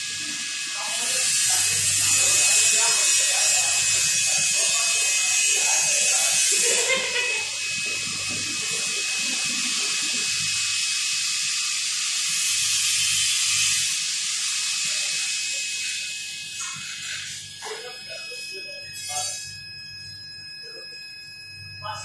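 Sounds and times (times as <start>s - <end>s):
laser cutter hissing and whining: 0.0s - 20.8s.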